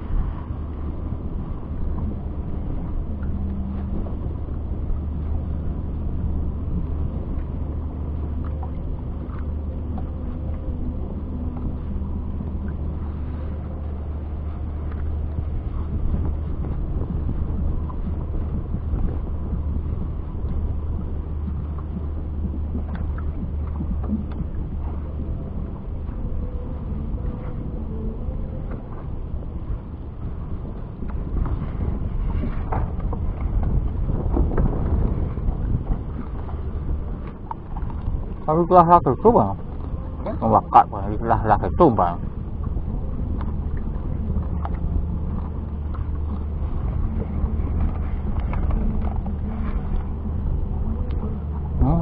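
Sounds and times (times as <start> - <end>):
boat engine humming: 0.0 - 52.0.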